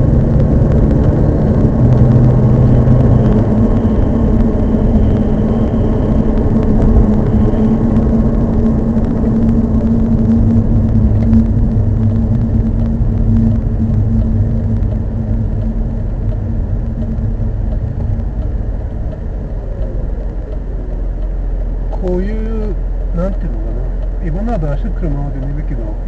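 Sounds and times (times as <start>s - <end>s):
car cabin road noise: 0.0s - 26.0s
steady low hum: 0.0s - 26.0s.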